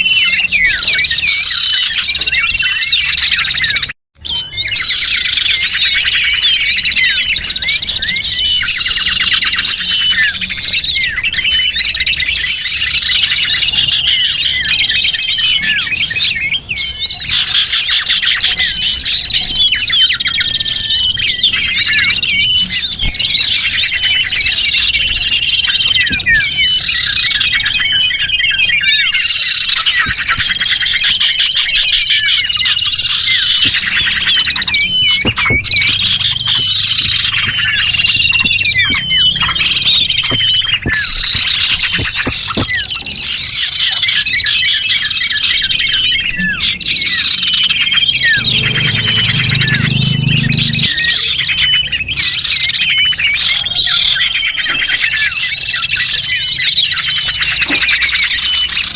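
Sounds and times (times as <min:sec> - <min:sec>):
small songbirds chirping and trilling: 0:00.0 - 0:58.9.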